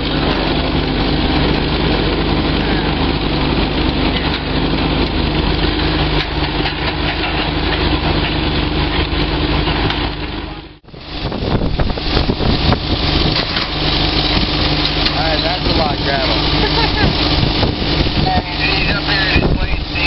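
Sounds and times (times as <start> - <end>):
heavy diesel engines running: 0.0 - 20.0.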